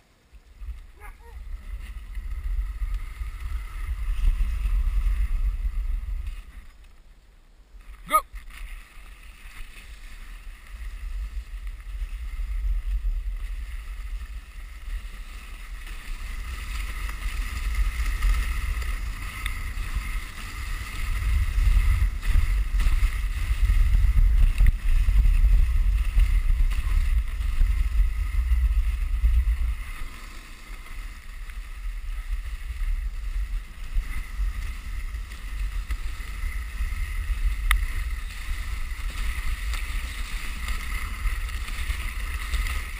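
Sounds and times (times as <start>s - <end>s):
sled runners sliding on snow: 0.0s - 42.9s
wind rumble on microphone: 0.0s - 42.9s.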